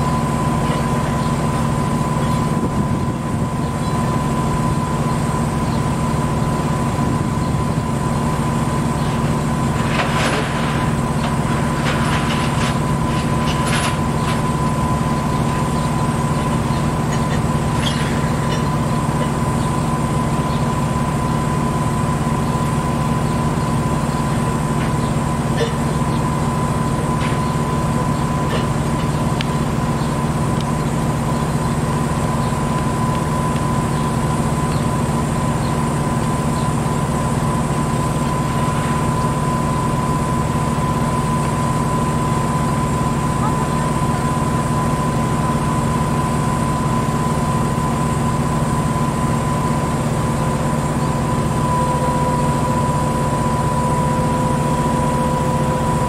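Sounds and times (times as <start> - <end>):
diesel engine drone: 0.0 - 56.0
high whine: 0.0 - 56.0.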